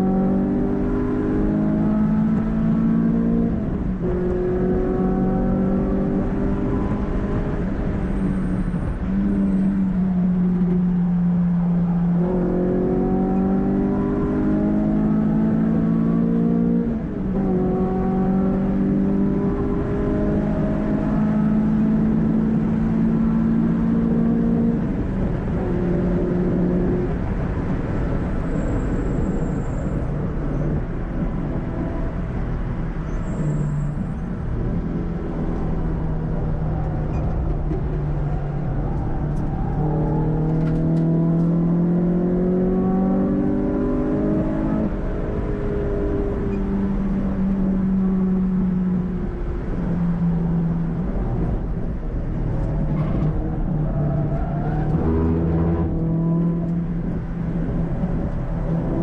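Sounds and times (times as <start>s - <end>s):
car engine running hard: 0.0s - 59.0s.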